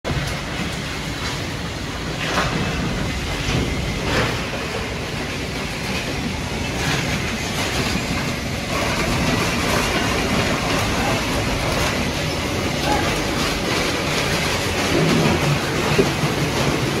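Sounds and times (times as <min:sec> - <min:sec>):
industrial machinery clatter: 0:00.1 - 0:17.0.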